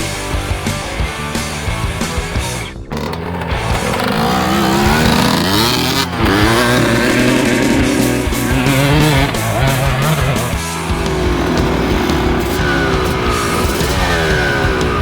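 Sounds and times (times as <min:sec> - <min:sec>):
dirt bike engine revving: 0:00.0 - 0:15.0
rock music: 0:00.0 - 0:15.0.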